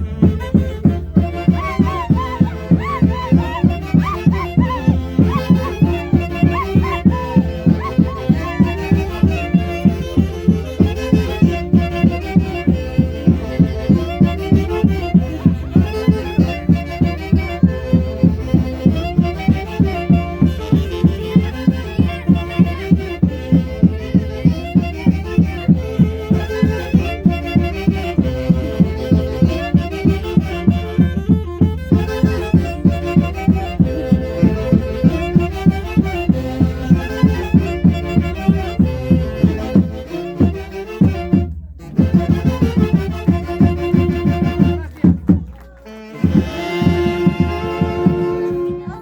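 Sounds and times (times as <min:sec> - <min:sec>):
violin melody with vibrato: 0:00.0 - 0:45.0, 0:45.8 - 0:49.0
steady pulsing beat: 0:00.0 - 0:49.0.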